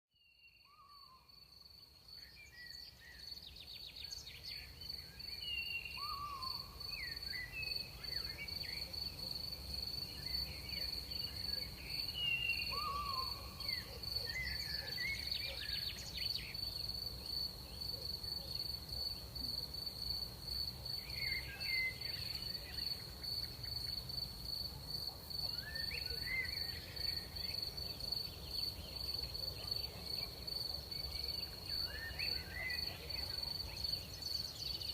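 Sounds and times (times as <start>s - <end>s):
crickets trilling: 4.0s - 15.5s, 16.3s - 34.9s.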